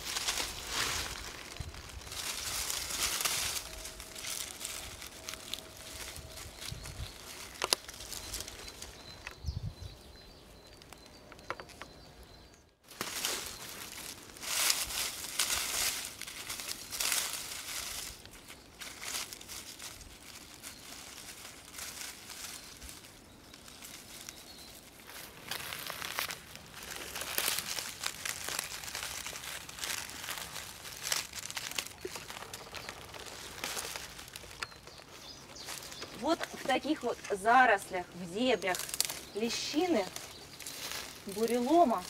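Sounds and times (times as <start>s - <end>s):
dry leaves rustling and crackling: 0.0s - 9.4s, 12.8s - 42.0s
twigs snapping: 0.0s - 9.4s, 12.9s - 37.4s, 38.4s - 42.0s.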